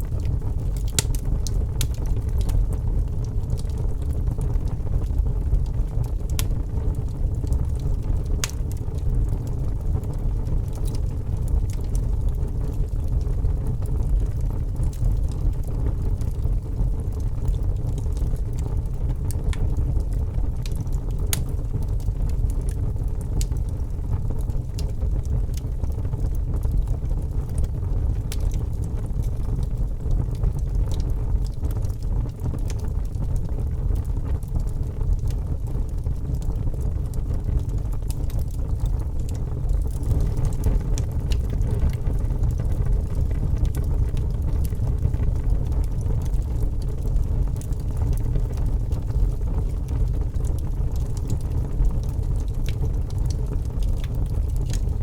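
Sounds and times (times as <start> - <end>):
fire crackles and pops: 0.0 - 55.0
logs burning in fireplace: 0.0 - 55.0.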